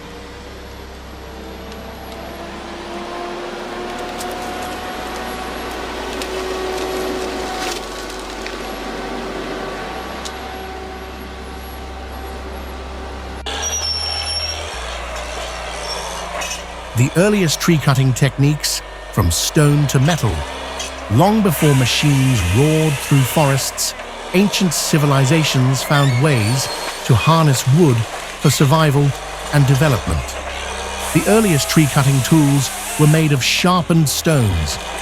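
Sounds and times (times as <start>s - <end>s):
heavy machinery engine running: 0.0s - 35.0s.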